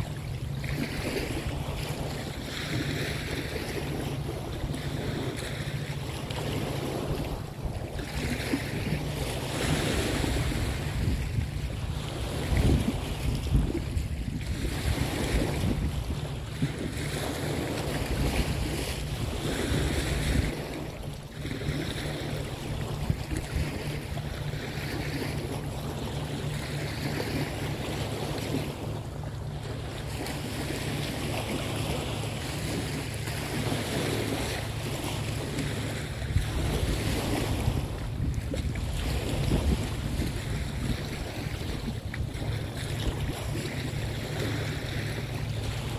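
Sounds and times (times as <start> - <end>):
river water rushing: 0.0 - 11.0, 19.4 - 45.9
wind buffeting microphone: 0.0 - 45.9.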